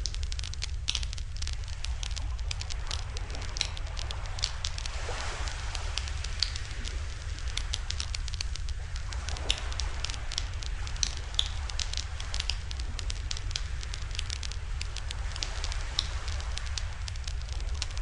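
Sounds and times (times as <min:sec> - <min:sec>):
low rumble: 0:00.0 - 0:18.0
wood fire crackling and popping: 0:00.0 - 0:18.0.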